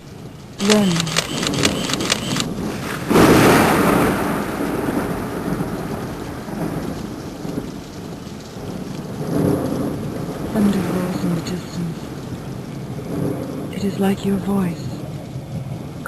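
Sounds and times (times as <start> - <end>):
rain hiss: 0.0 - 16.0
thunder rolling: 0.0 - 16.0.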